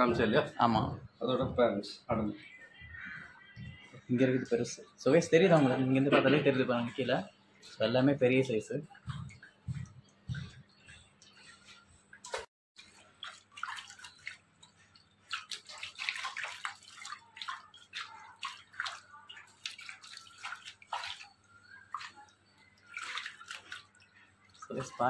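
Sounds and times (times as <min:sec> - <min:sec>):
water dripping into fish tanks: 0:00.0 - 0:25.0.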